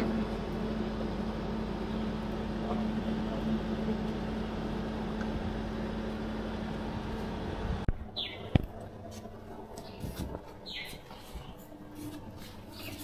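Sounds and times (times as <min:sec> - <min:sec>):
machine engine droning: 0:00.0 - 0:13.0.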